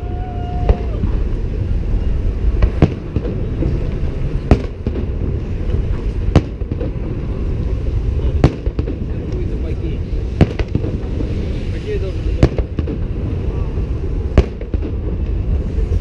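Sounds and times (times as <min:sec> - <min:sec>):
firework bangs: 0:00.0 - 0:16.0
steady low rumble: 0:00.0 - 0:16.0.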